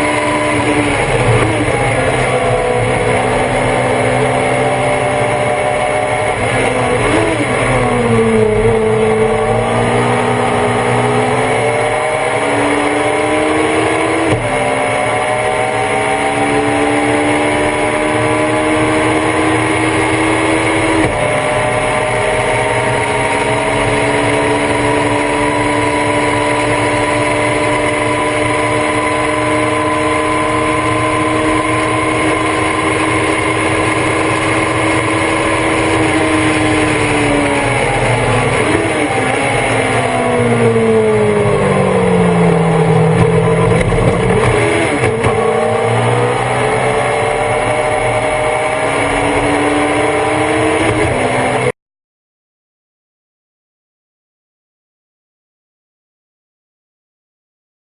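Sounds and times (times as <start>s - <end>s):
race car engine revving: 0.0s - 51.8s.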